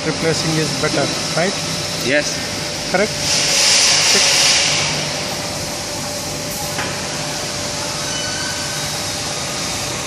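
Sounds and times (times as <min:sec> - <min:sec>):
machine background noise: 0:00.0 - 0:10.0.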